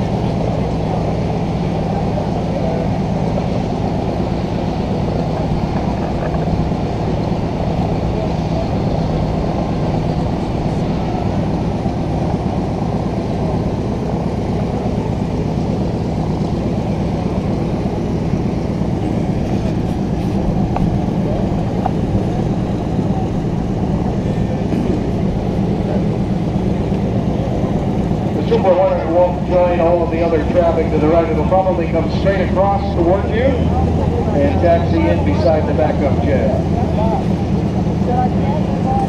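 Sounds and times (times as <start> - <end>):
radial aircraft engines droning: 0.0 - 39.0.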